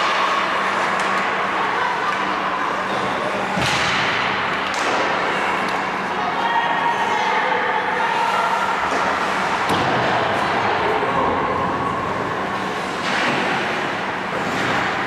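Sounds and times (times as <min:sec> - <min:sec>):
ice rink ambience: 0:00.0 - 0:15.0.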